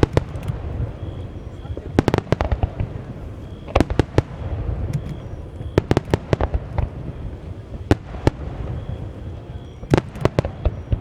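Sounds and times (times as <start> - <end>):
continuous low rumble: 0.0 - 11.0
fireworks cracking: 0.0 - 11.0.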